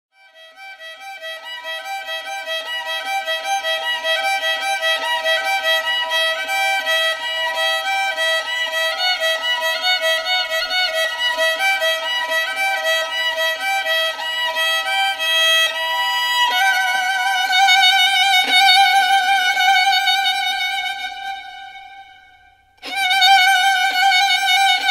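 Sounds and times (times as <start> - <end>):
violin playing melody: 0.2 - 24.9.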